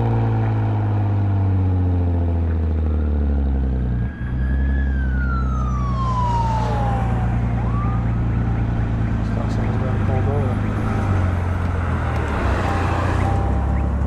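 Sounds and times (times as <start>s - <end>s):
car engine droning while cruising: 0.0s - 14.0s
emergency siren wailing: 0.0s - 14.0s.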